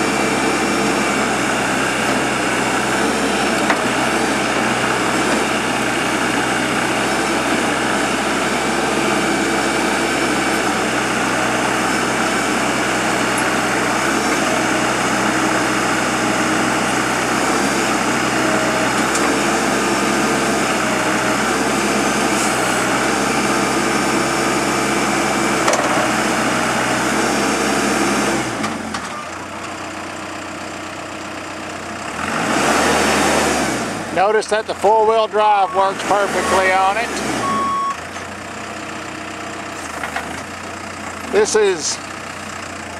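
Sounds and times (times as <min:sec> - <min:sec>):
backhoe diesel engine running: 0:00.0 - 0:42.9.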